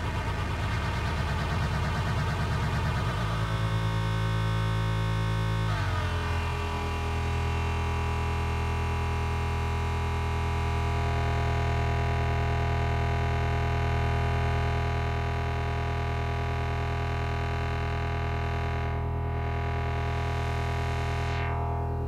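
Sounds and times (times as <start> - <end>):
low buzzy synthesizer drone: 0.0 - 22.0.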